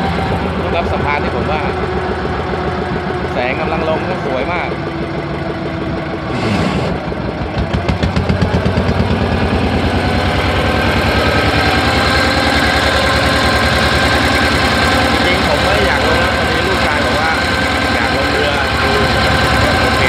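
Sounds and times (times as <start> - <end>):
boat engine knocking: 0.0 - 20.0.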